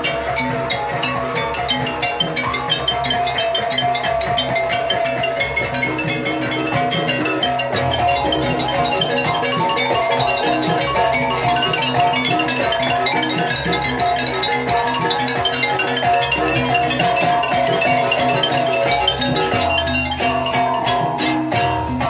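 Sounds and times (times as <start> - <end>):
drums: 0.0 - 22.0
gamelan metallophones playing: 0.0 - 22.0.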